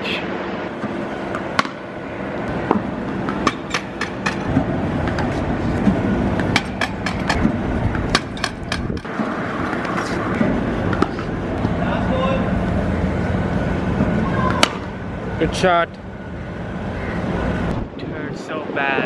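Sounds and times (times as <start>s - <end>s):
steady rumble: 0.0s - 19.0s.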